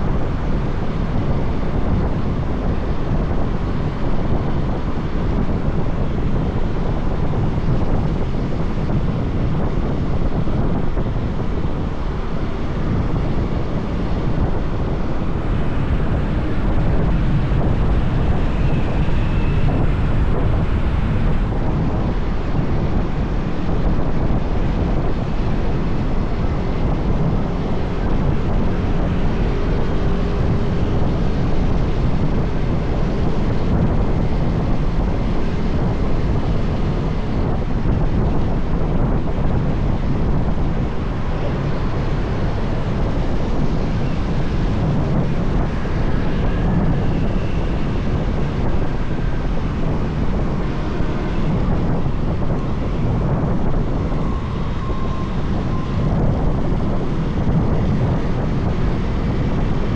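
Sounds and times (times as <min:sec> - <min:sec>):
passing road traffic: 0:00.0 - 0:59.9
wind buffeting microphone: 0:00.0 - 0:59.9.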